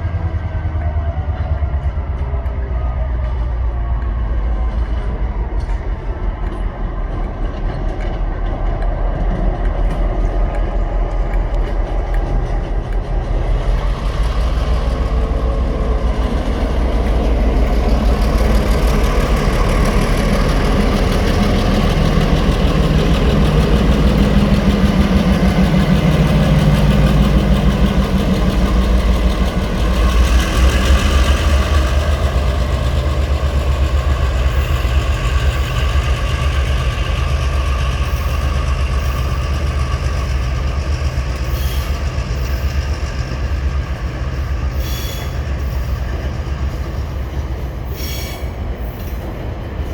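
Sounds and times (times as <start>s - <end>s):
locomotive engines droning: 0.0s - 49.9s.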